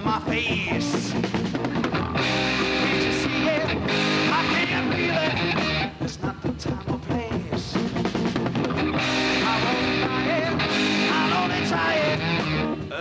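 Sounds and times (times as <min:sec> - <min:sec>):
drums: 0:00.0 - 0:13.0
electric guitar: 0:00.0 - 0:13.0.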